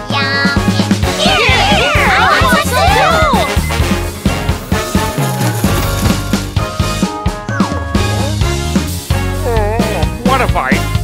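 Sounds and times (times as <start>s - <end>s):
children's cartoon music: 0.0s - 11.0s.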